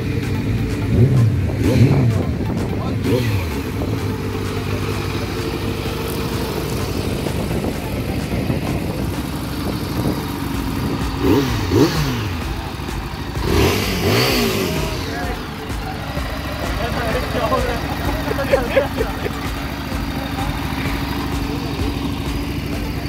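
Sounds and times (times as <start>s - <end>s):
motorcycle engines idling: 0.0s - 23.0s
motorcycle throttle revving: 0.0s - 23.0s.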